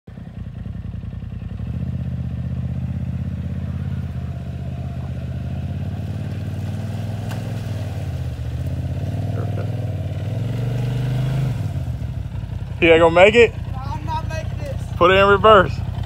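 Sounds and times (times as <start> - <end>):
engine running at low revs: 0.1 - 16.0.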